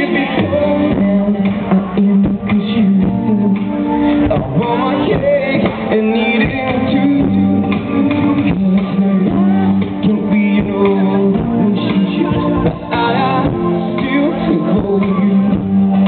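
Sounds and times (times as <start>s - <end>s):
acoustic guitar: 0.0s - 16.0s
double bass: 0.0s - 16.0s
drums: 0.0s - 16.0s
person singing: 0.0s - 16.0s.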